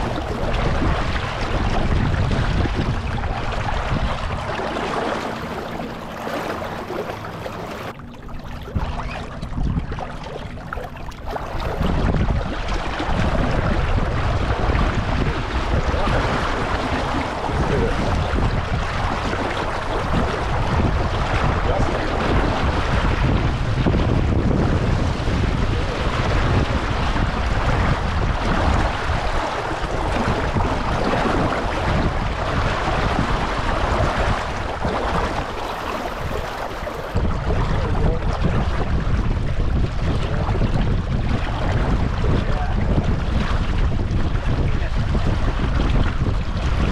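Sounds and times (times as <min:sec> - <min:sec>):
water washing against hull: 0:00.0 - 0:46.9
wind buffeting microphone: 0:00.0 - 0:46.9.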